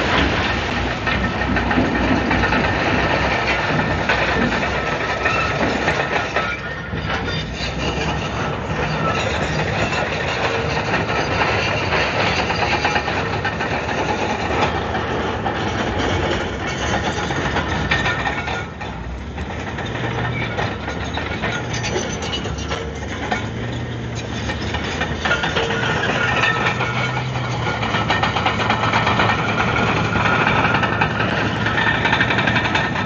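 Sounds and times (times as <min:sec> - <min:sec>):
bulldozer diesel engine running: 0:00.0 - 0:33.0
steel tracks clattering on rock: 0:00.0 - 0:33.0.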